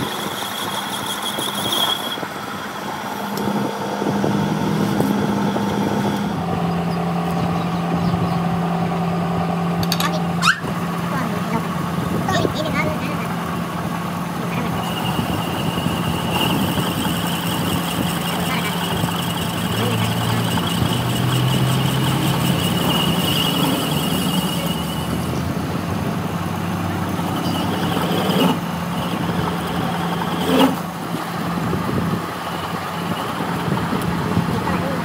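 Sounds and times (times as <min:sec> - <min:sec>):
high cutting whine: 0:00.0 - 0:35.0
metal lathe running: 0:00.0 - 0:35.0.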